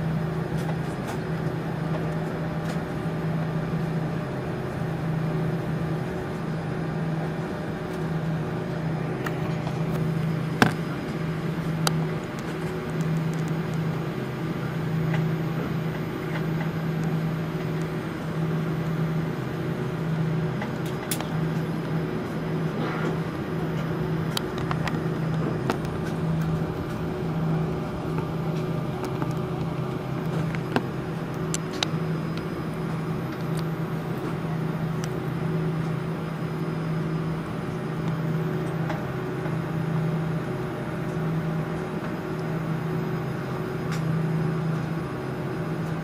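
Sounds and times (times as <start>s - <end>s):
aircraft engines humming at idle: 0.0s - 46.0s.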